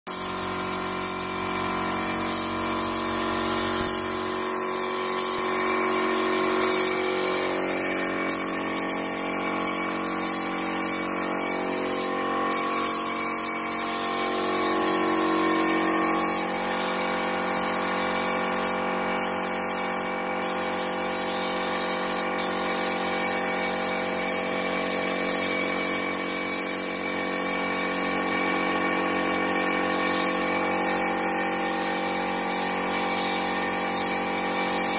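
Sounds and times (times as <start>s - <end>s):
spray gun hissing: 0.1s - 34.9s
steady mechanical hum: 0.1s - 34.9s.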